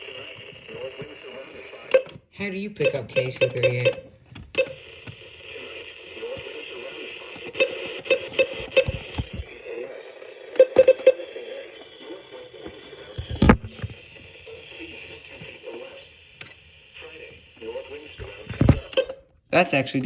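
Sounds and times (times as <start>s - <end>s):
radio static hiss: 0.0s - 3.9s, 4.8s - 20.0s
voice on radio broadcast: 0.0s - 4.1s, 5.4s - 16.1s, 16.9s - 20.0s.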